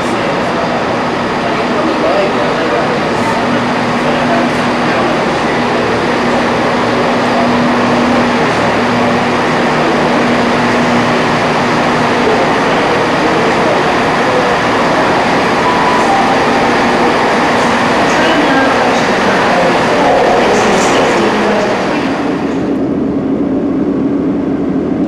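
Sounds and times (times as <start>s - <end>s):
train running noise inside carriage: 0.0s - 25.0s.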